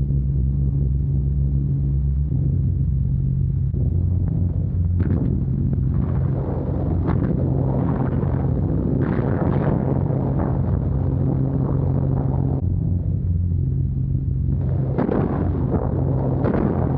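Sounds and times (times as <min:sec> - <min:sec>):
rushing noise with crackles: 0:00.0 - 0:16.9.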